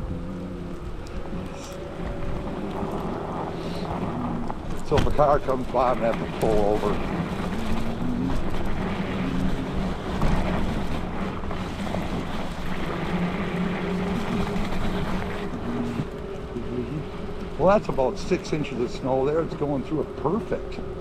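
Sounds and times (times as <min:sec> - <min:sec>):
bicycle tyres rushing through snow: 0:00.0 - 0:21.0
faint steady hum: 0:00.0 - 0:21.0
wind on microphone: 0:00.0 - 0:21.0.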